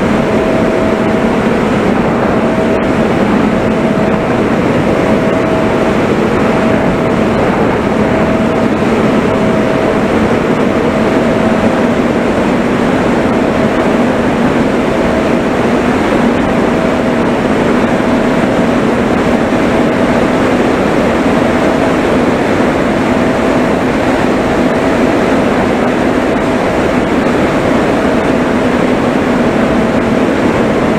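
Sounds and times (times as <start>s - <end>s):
aircraft motor and propeller hum: 0.0s - 30.9s
wind rushing over camera: 0.0s - 30.9s.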